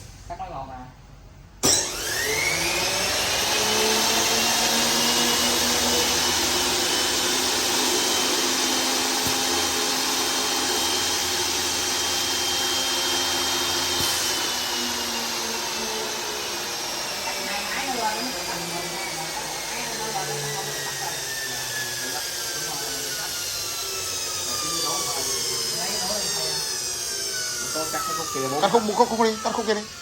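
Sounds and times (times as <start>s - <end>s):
cutting machine whine: 1.6s - 30.0s.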